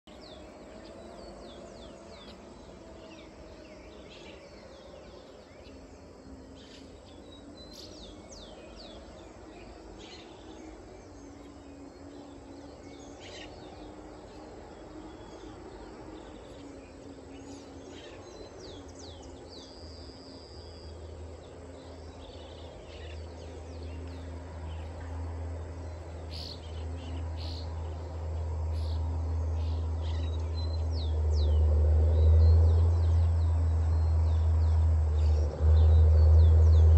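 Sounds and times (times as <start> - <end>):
faint steady hum: 0.1 - 36.9
small birds chirping: 0.1 - 36.9.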